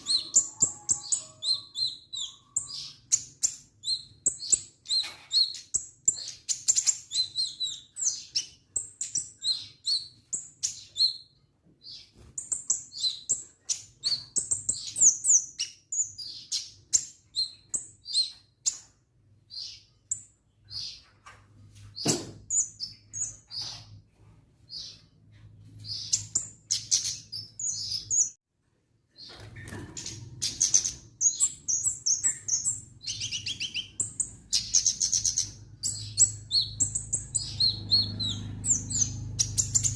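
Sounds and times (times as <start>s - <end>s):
songbird chirps and trills: 0.0s - 28.4s, 29.1s - 39.9s.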